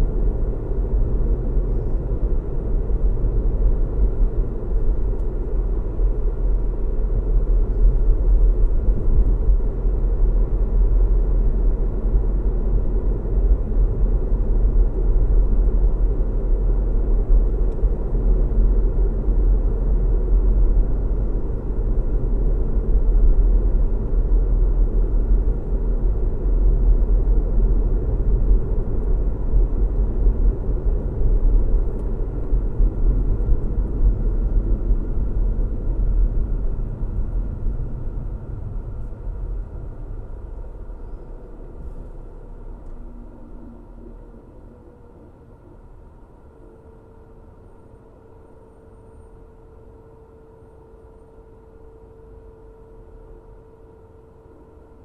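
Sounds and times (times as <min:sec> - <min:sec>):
car road and engine rumble: 0:00.0 - 0:49.3.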